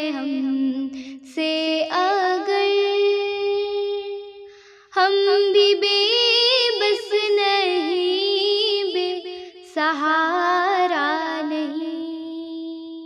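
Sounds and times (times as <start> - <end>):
girl singing a devotional hymn: 0.0 - 13.0.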